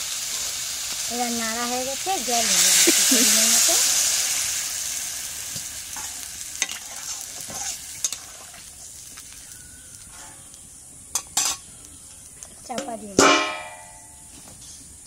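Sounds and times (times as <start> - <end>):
water sizzling in hot pan: 0.0 - 13.8.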